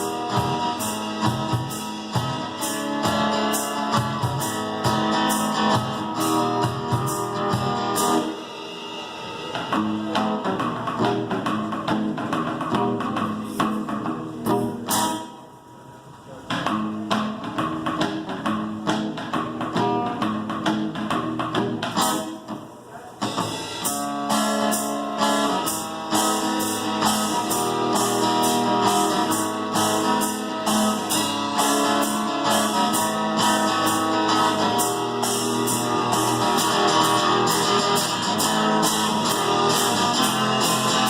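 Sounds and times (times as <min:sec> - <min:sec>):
strummed acoustic guitar: 0:00.0 - 0:15.5, 0:16.5 - 0:41.0
cajon and cymbal percussion: 0:00.0 - 0:41.0.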